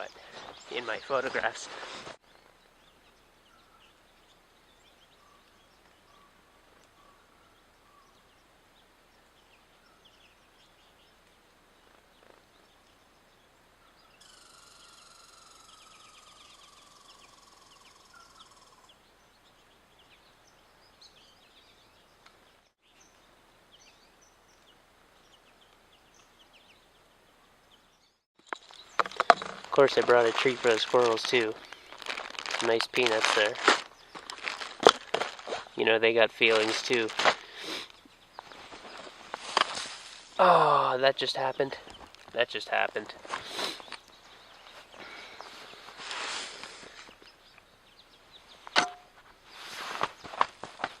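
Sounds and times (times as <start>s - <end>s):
small songbirds chirping: 0.0s - 51.0s.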